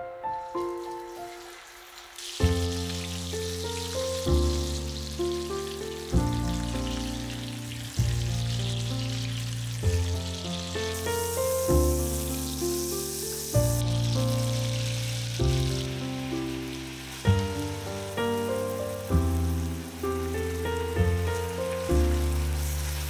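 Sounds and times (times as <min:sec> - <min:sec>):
piano music: 0:00.0 - 0:23.0
butter sizzling in a pan: 0:00.4 - 0:23.0.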